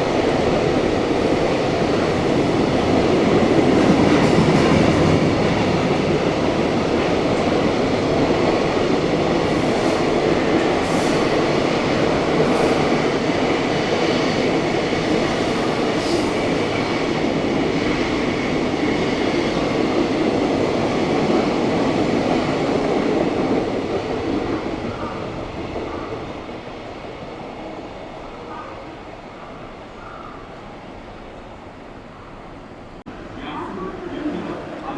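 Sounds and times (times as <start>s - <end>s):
train wheels rushing on rail: 0.0s - 34.9s.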